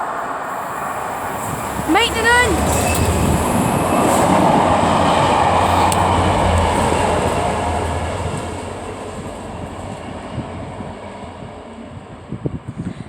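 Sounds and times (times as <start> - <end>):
train passing with diesel rumble: 0.0 - 13.0.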